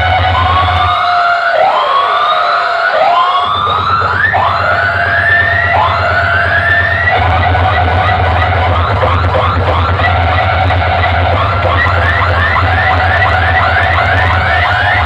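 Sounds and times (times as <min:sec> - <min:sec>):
deep bass drone: 0:00.0 - 0:01.0, 0:03.4 - 0:15.0
siren whoops through speakers: 0:00.0 - 0:15.0.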